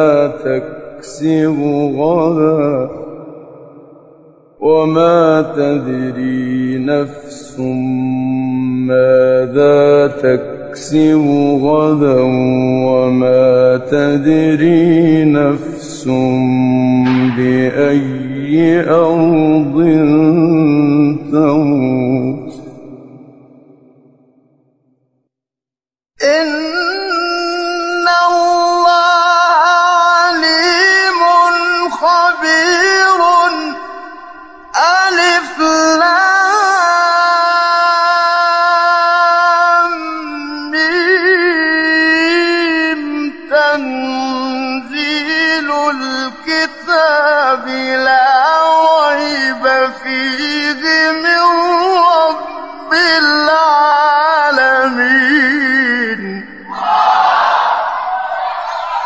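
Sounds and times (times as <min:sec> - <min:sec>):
man chanting melodically: 0:00.0 - 0:03.3, 0:04.6 - 0:23.7, 0:26.2 - 0:56.7.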